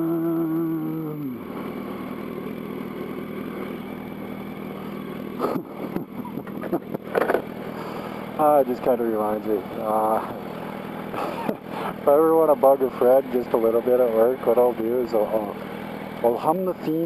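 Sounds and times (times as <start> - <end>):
motorcycle engine idling: 0.0 - 17.0
traffic noise: 1.4 - 16.5.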